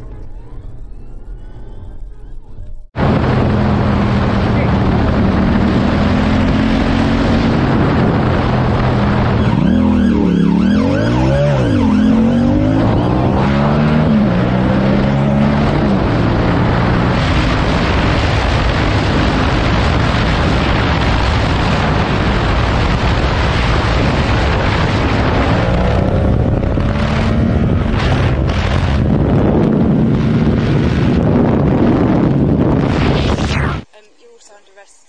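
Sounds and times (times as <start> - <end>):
wind over microphone: 0.0 - 33.9
motorcycle engine revving hard: 3.0 - 33.3.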